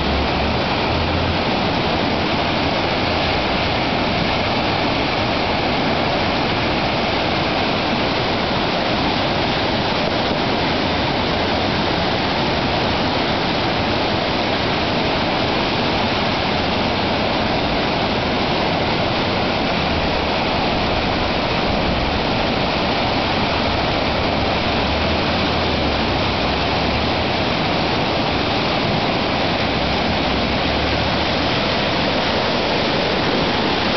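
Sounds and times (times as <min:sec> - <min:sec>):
stream rushing: 0:00.0 - 0:33.9.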